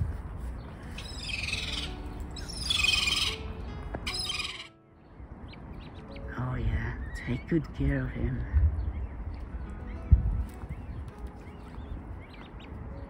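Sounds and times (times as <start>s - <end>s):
high-pitched bird chirping: 0.5s - 8.0s, 8.7s - 13.0s.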